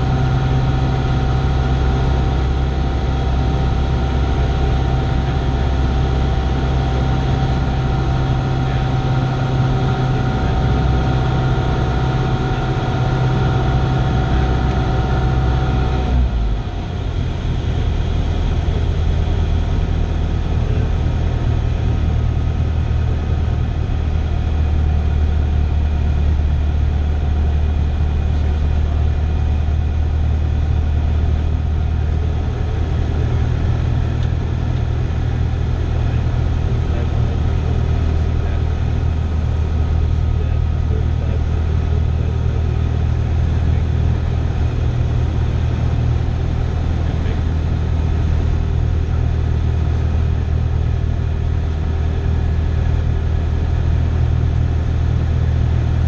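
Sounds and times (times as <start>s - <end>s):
airplane engine droning: 0.0s - 56.0s.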